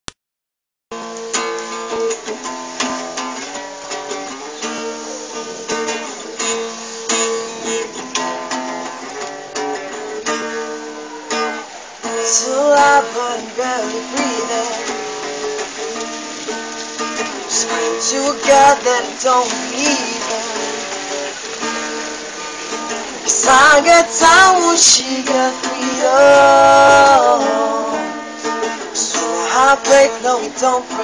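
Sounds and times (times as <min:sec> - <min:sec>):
acoustic guitar playing: 0:00.9 - 0:31.0.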